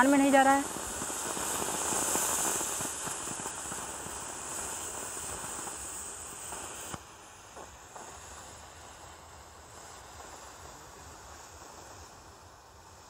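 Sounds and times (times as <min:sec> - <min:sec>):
firework rocket hissing: 0:00.0 - 0:13.0.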